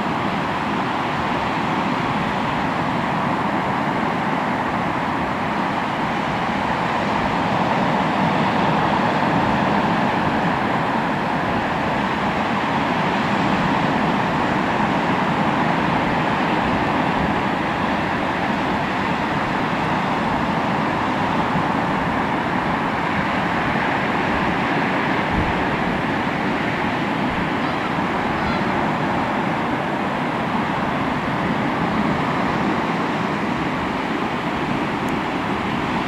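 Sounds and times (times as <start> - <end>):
sea surf washing on shore: 0.0 - 36.0.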